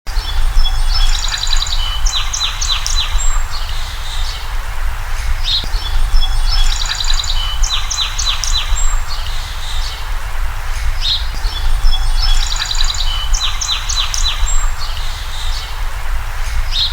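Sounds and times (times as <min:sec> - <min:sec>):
songbirds chirping and trilling: 0:00.1 - 0:16.9.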